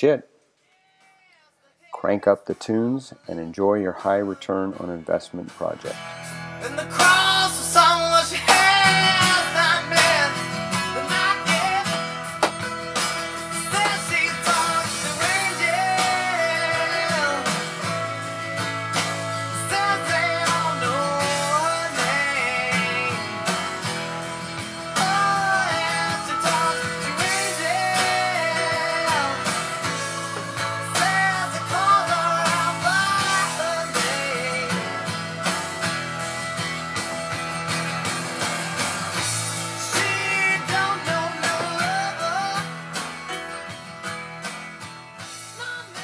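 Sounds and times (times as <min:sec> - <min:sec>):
rock song with guitars and vocals: 0:02.7 - 0:46.0.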